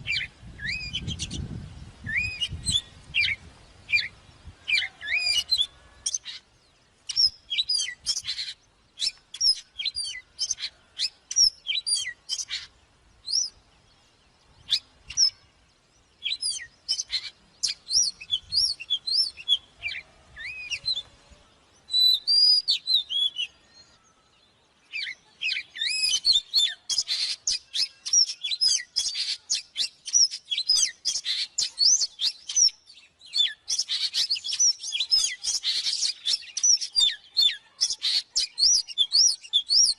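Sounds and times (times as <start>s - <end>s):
bird singing whistled phrases: 0.0s - 4.1s, 4.7s - 6.4s, 7.1s - 13.6s, 14.6s - 15.4s, 16.2s - 21.1s, 21.8s - 39.9s.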